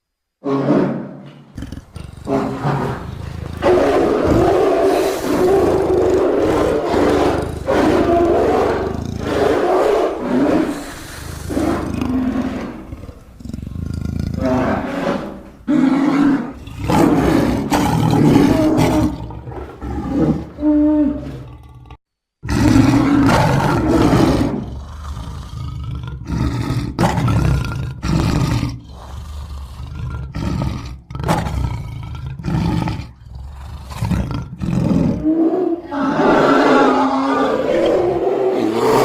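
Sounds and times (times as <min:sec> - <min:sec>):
bear roars: 0:00.4 - 0:39.0.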